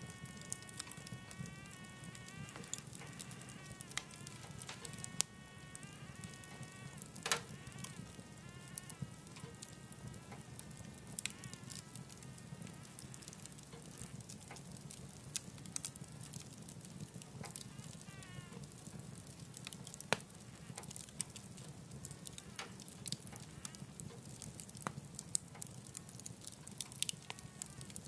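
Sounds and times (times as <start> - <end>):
fire crackling and popping: 0.0 - 28.0
low rumble of fire: 0.0 - 28.0
whistling whine from burning wood: 0.0 - 28.0.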